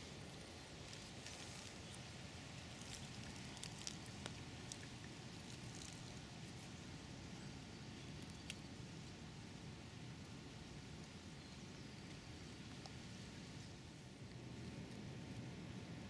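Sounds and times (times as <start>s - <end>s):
faint ticks and crackles: 0.8s - 9.2s, 9.9s - 15.8s.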